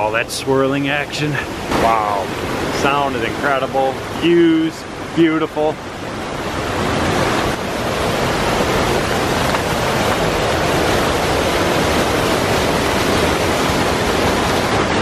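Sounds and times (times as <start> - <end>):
waterfall pouring into a pool: 0.0 - 15.0.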